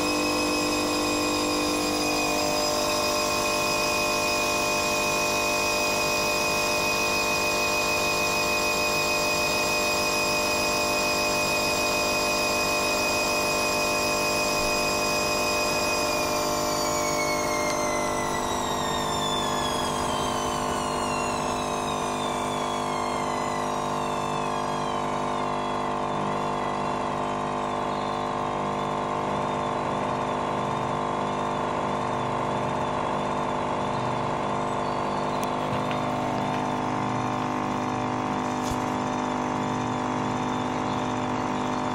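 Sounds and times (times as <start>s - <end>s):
washing machine motor whining: 0.0s - 41.9s.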